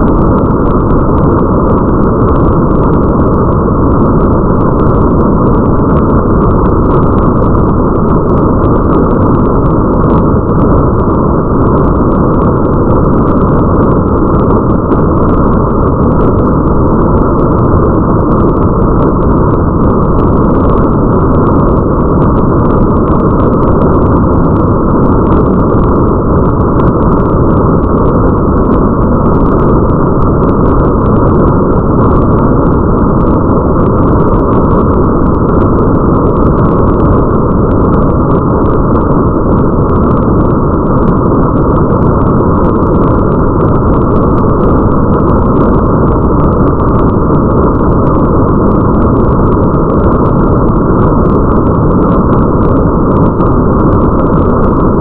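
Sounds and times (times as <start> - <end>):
muffled rain: 0.0 - 55.0.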